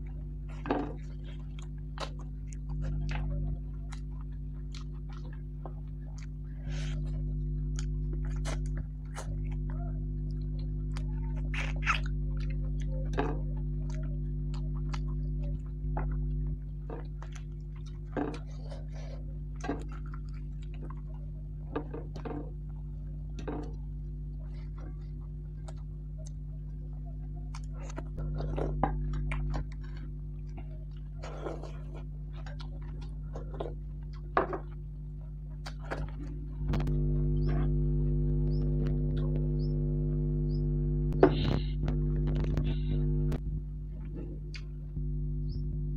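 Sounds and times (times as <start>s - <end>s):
person chewing: 0.0s - 45.6s
steady low hum: 0.0s - 45.9s
mouth clicks and smacks: 0.5s - 21.2s, 27.5s - 34.8s, 35.6s - 39.8s, 40.5s - 43.4s, 44.0s - 45.7s.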